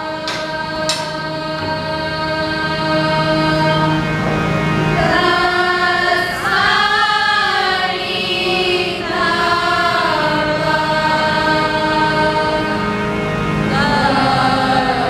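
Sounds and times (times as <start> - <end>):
girls singing together: 0.0 - 4.0, 5.0 - 15.0
harmonium drone: 0.0 - 15.0.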